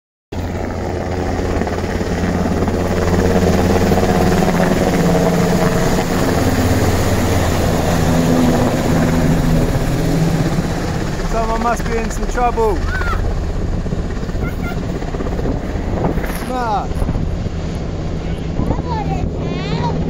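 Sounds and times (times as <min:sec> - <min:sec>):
helicopter flying low overhead: 0:00.3 - 0:20.0.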